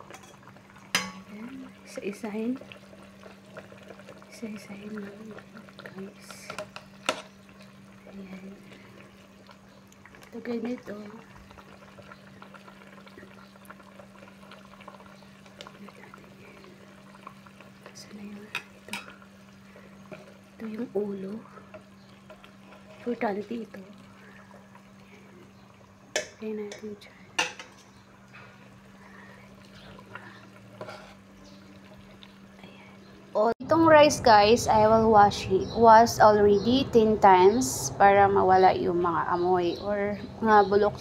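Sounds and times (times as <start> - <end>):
broth bubbling in a pot: 0.0 - 41.0
low steady hum: 0.0 - 41.0.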